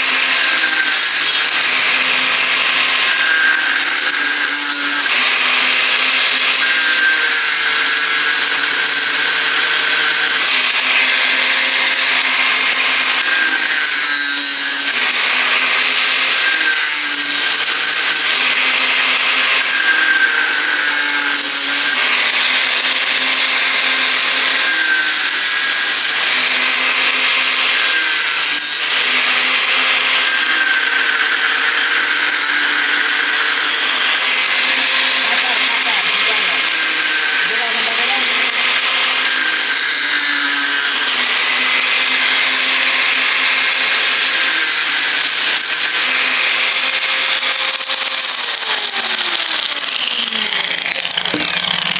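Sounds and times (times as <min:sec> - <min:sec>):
angle grinder cutting metal: 0:00.0 - 0:51.9.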